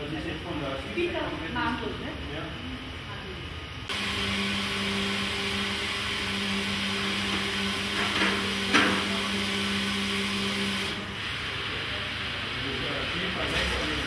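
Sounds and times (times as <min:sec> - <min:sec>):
equipment humming: 0:00.0 - 0:14.0.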